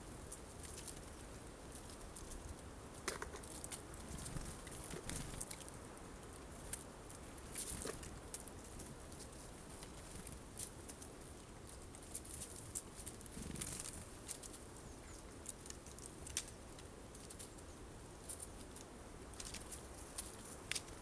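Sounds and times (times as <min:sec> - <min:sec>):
birds pecking at feeder: 0:00.0 - 0:21.0.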